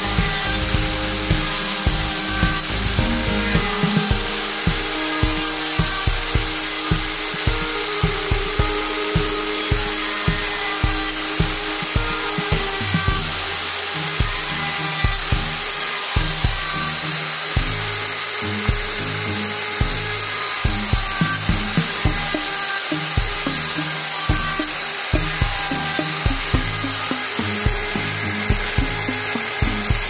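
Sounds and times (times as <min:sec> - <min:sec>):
background music with beat: 0:00.0 - 0:30.0
router cutting wood: 0:00.0 - 0:30.0.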